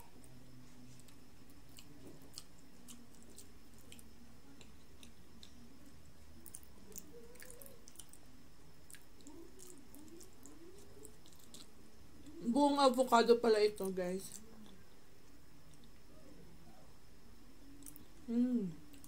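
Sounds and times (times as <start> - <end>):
soft chewing: 0.0 - 12.5, 13.7 - 17.0, 17.6 - 19.0.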